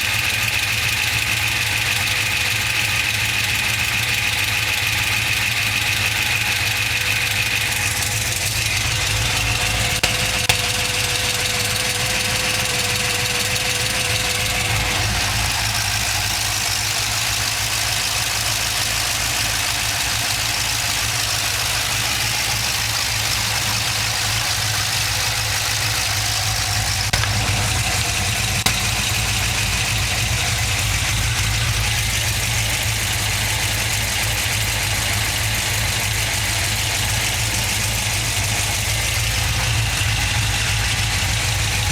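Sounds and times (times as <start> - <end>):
car engine idling with ticking: 0.0 - 41.9.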